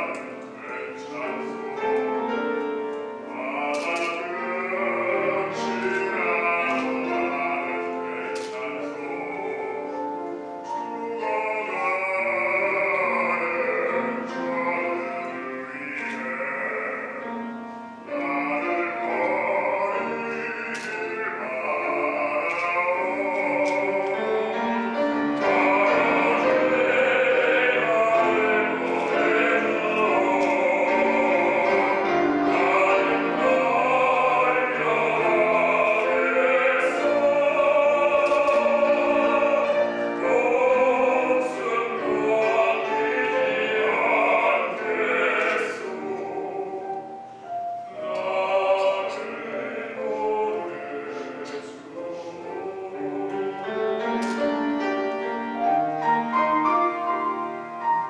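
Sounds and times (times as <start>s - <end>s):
two men singing classical duet: 0.0s - 58.0s.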